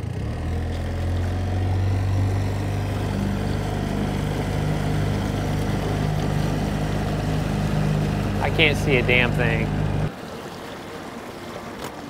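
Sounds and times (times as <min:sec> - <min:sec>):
small boat motor running: 0:00.0 - 0:12.0.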